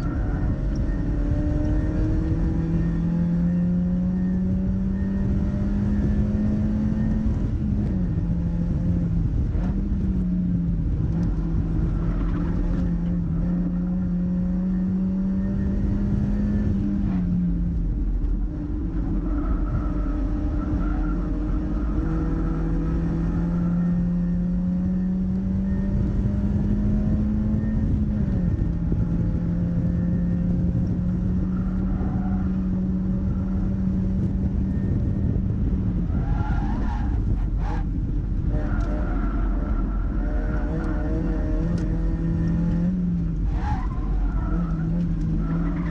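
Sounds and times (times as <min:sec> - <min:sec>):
car engine running hard: 0:00.0 - 0:45.9
road and wind rumble: 0:00.0 - 0:45.9.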